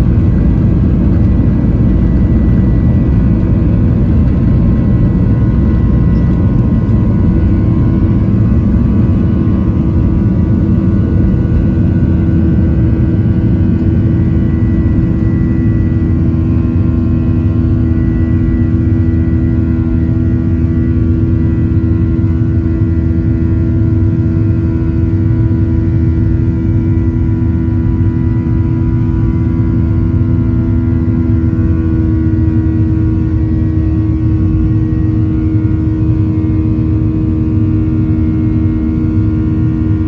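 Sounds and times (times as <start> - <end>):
jet engines roaring on takeoff: 0.0 - 40.0.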